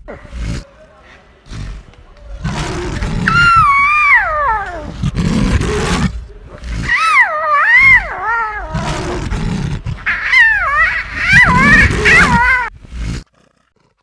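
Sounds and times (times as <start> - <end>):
big cat roaring and growling: 0.0 - 0.8, 1.4 - 14.0.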